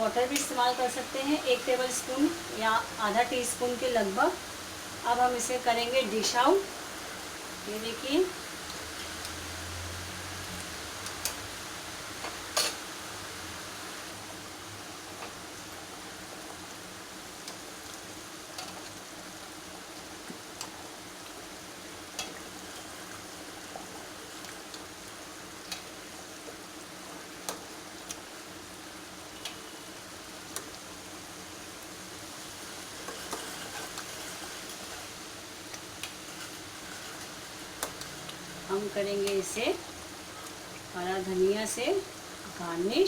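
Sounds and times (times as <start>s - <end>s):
gravy bubbling and sizzling: 0.0s - 43.0s.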